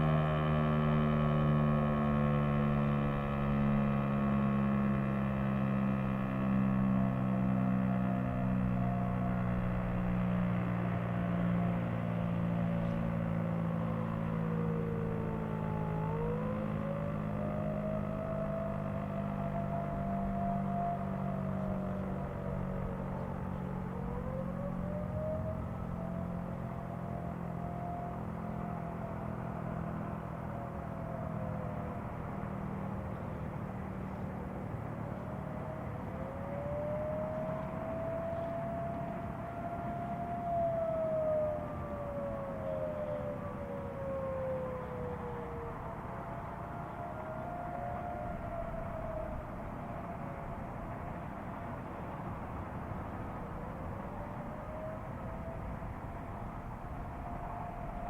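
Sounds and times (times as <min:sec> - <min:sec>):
steady low hum: 0:00.0 - 0:58.0
warning siren wailing: 0:00.0 - 0:58.0.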